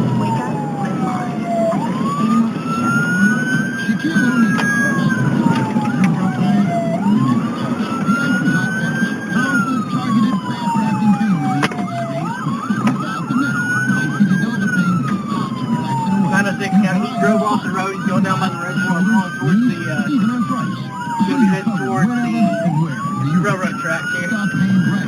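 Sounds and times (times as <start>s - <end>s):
low vehicle rumble: 0.0s - 25.0s
police siren wailing: 0.0s - 25.0s
warbling siren tone: 0.0s - 25.0s.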